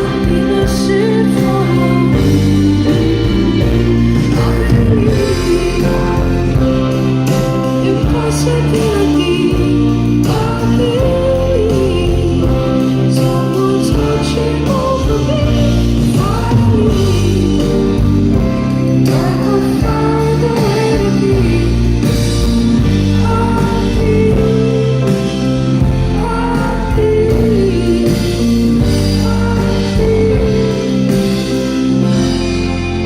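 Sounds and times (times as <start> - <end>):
woman singing wordlessly: 0.0 - 6.6, 7.8 - 18.0, 19.0 - 22.2, 23.0 - 25.4, 26.0 - 31.2
band playing sustained chords: 0.0 - 33.0.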